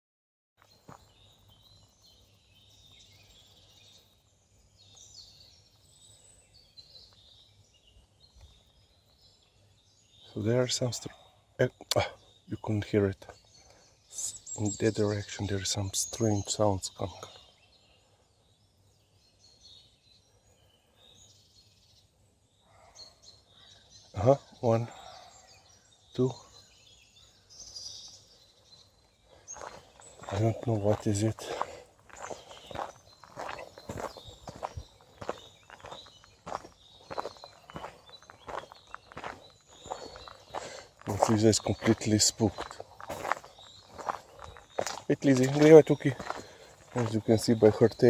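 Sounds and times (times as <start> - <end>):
small birds chirping and trilling: 0.6 - 48.0.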